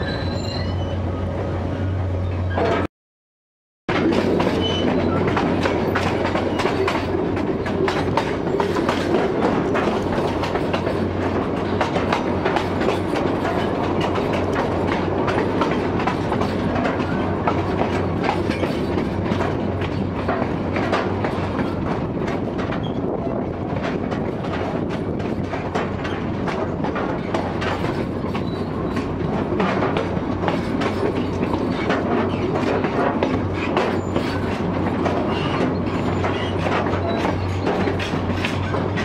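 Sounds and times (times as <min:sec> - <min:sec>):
electric train rumbling: 0:00.0 - 0:02.9, 0:03.9 - 0:39.0.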